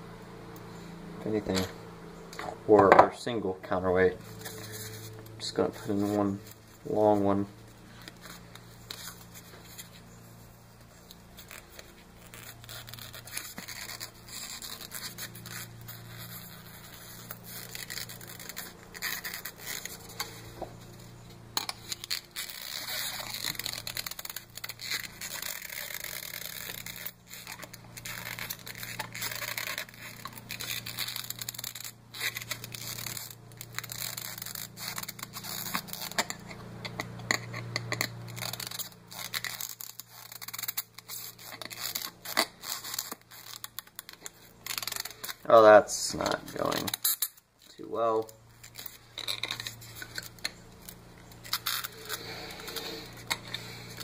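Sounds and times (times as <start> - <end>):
steady low hum: 0.0 - 54.0
foam scraping against wire: 0.8 - 1.7, 2.4 - 54.0.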